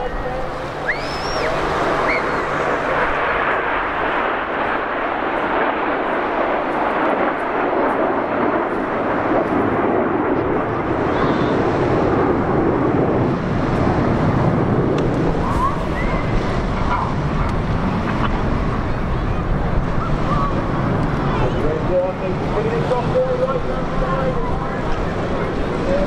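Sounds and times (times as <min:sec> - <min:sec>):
jet noise rushing: 0:00.0 - 0:26.0.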